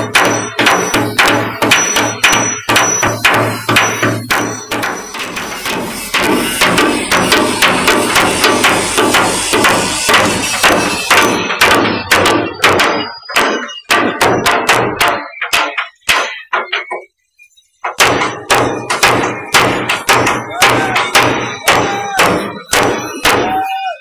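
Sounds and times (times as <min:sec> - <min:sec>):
hammers striking steel deck: 0:00.0 - 0:17.1, 0:17.8 - 0:24.0.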